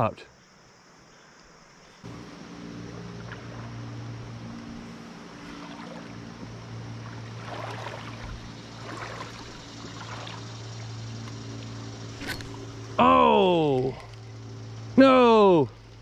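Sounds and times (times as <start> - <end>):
steady low hum: 1.9 - 16.0.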